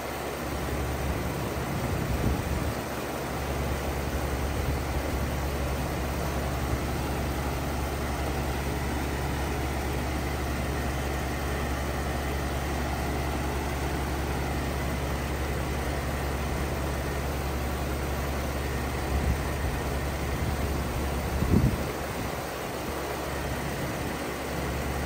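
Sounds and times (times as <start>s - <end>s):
compressor humming: 0.0s - 25.0s
condenser fan rushing: 0.0s - 25.0s.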